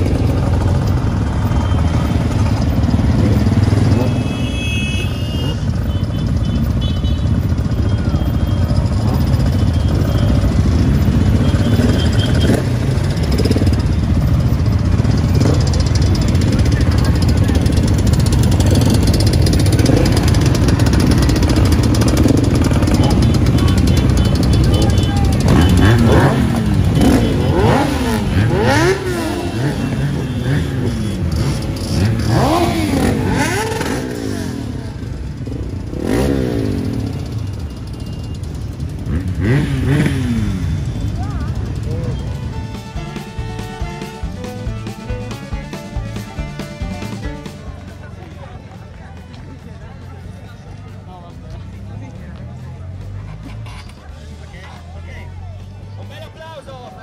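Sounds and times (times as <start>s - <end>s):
motorcycle engines rumbling: 0.0s - 57.0s.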